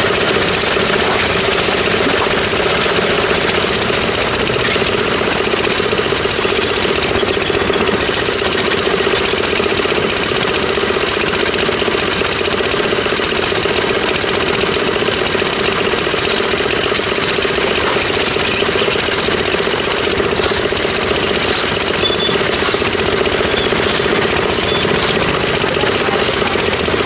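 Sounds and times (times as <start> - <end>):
concrete mixer engine running: 0.0 - 27.0.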